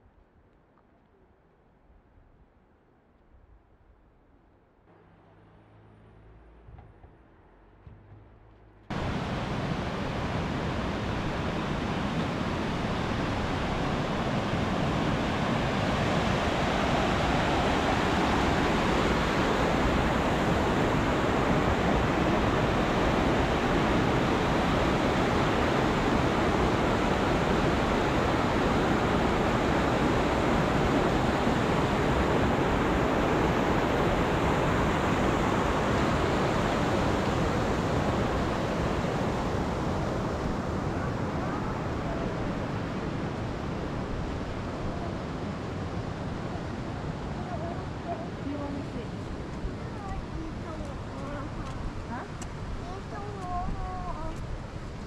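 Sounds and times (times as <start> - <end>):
rushing water: 8.9 - 55.0.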